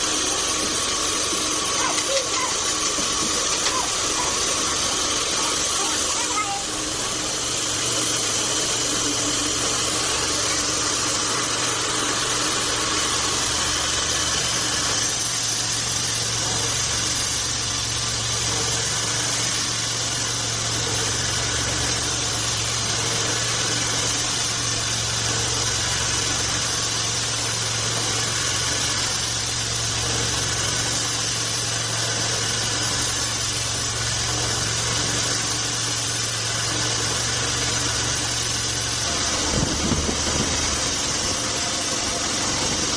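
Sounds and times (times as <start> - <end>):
band sawmill running: 0.0 - 42.9.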